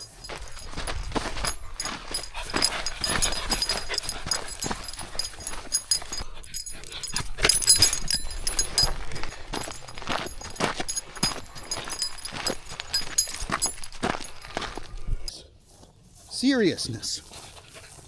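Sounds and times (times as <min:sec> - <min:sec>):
puppy making excited noises: 0:00.3 - 0:14.8.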